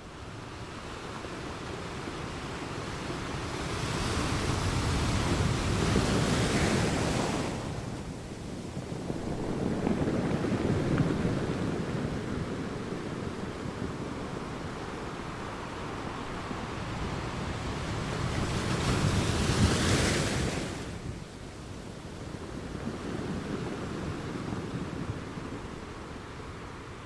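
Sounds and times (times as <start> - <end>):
ocean waves washing on beach: 0.0 - 27.0.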